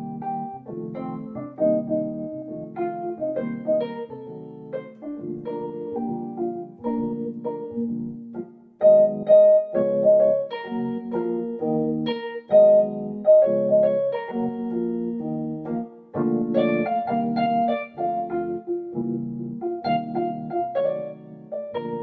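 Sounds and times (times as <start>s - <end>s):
electronic keyboard piano melody: 0.0s - 22.0s.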